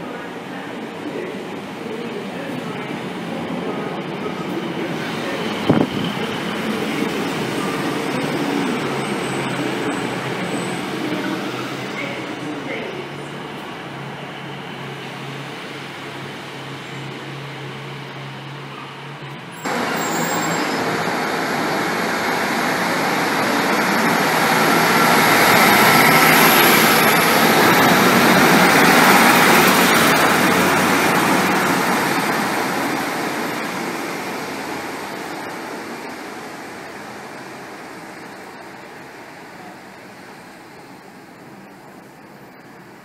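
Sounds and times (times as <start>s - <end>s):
diesel train passing: 0.0s - 43.0s.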